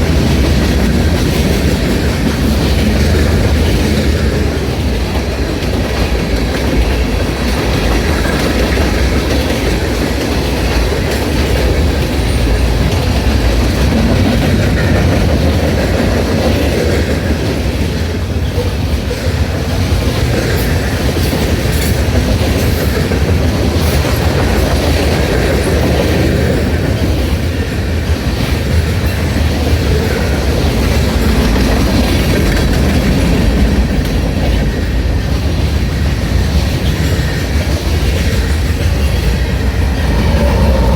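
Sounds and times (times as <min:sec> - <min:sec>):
freight train wheels clicking: 0:00.0 - 0:40.9.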